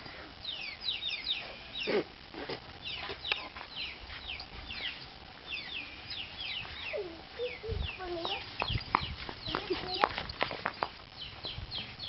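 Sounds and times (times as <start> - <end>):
chicks peeping: 0.4 - 2.0, 2.8 - 12.0.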